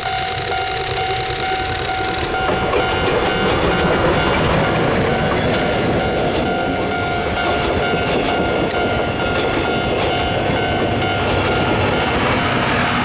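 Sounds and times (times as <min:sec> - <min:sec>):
ringing tones from running gear: 0:00.0 - 0:12.9
train rumble: 0:00.0 - 0:13.0
wheels clicking over rail joints: 0:00.0 - 0:13.0.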